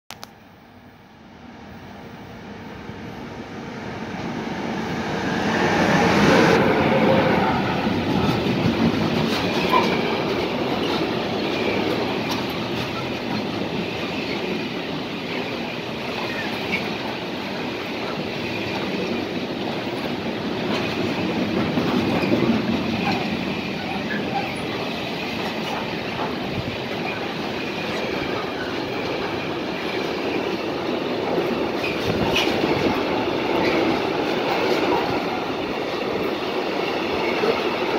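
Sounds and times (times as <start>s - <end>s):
electric locomotive passing: 0.3s - 37.9s
train wheels rolling on rails: 1.6s - 37.9s.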